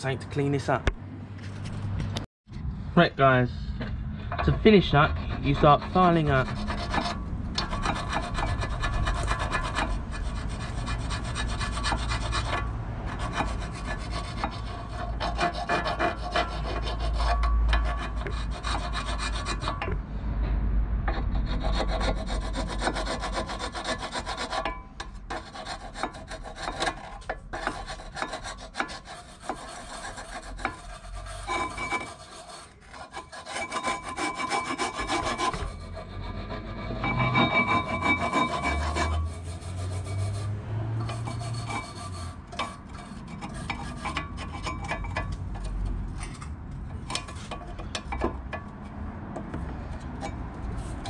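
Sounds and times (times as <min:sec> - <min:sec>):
metal file scraping: 0:04.2 - 0:20.0, 0:21.0 - 0:51.0.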